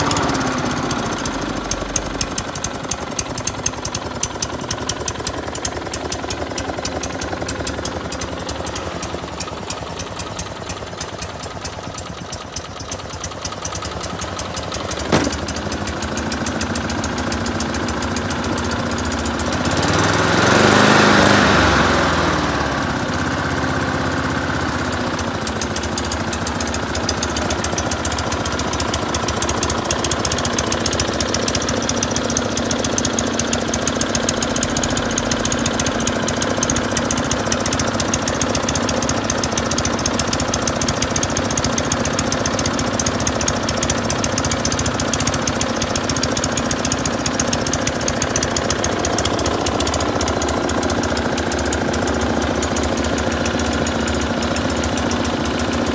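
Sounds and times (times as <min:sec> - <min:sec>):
lawn mower engine running: 0:00.0 - 0:55.9
sharp click: 0:01.1 - 0:18.0, 0:25.7 - 0:55.9.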